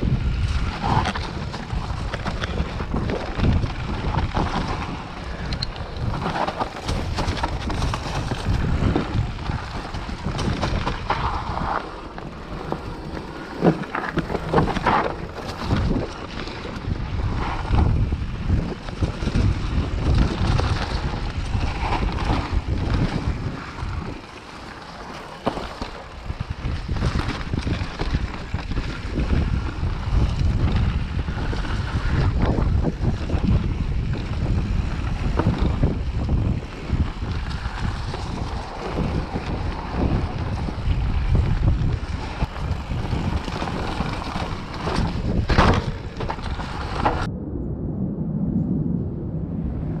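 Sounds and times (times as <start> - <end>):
bike clattering over bumps: 0.0 - 47.3
wind buffeting microphone: 0.0 - 50.0.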